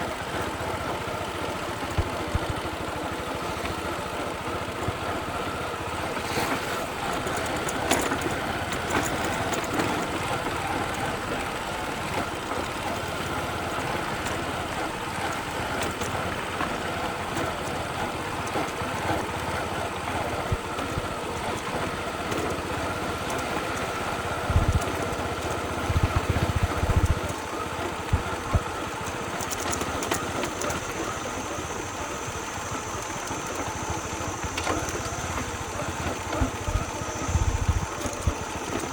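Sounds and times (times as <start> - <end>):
small motorbike engine running: 0.0 - 38.9.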